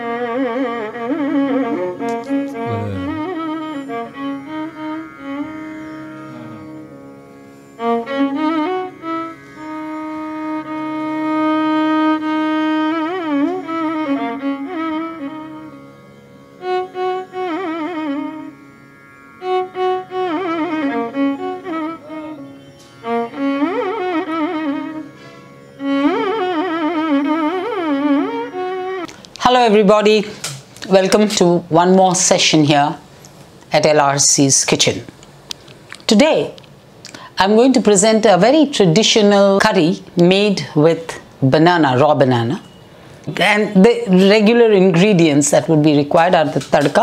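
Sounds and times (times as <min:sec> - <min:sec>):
bowed string melody: 0:00.0 - 0:47.0.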